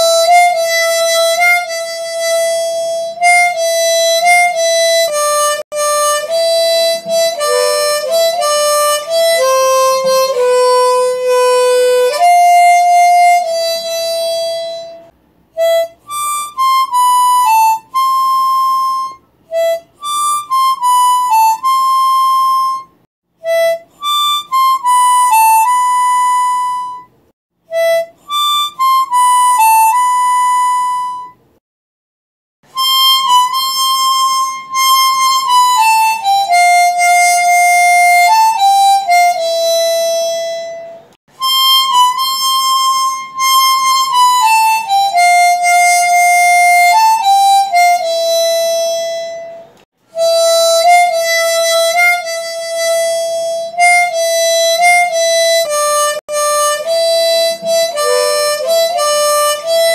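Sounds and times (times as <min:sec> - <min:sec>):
harmonica playing slow melody: 0:00.0 - 0:31.4, 0:32.7 - 0:59.9.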